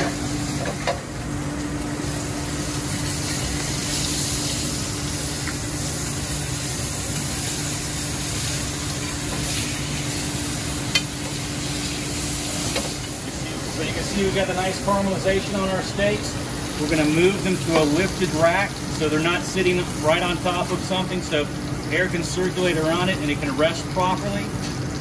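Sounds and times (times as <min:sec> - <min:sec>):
steaks sizzling in a skillet: 0:00.0 - 0:25.0.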